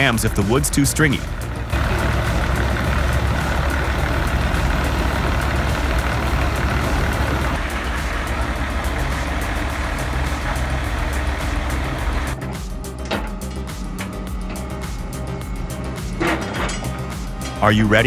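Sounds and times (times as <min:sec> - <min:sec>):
heavy diesel machinery rumble: 0:00.0 - 0:17.8
continuous noisy rattle: 0:00.0 - 0:18.0.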